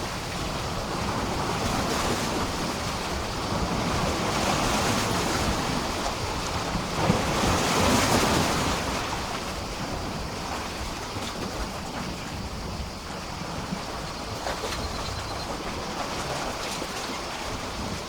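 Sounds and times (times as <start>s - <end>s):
waves washing against a pier: 0.0s - 18.0s.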